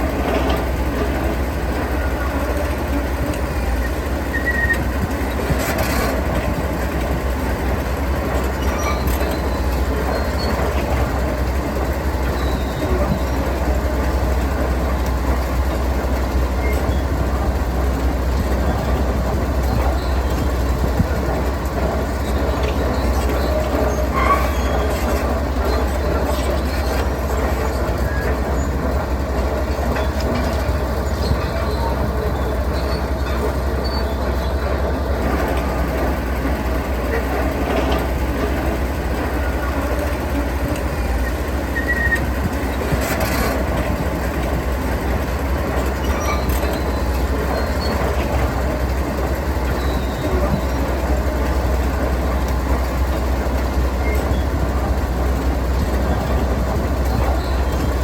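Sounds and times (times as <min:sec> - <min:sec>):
heavy machinery rumbling: 0:00.0 - 0:58.0.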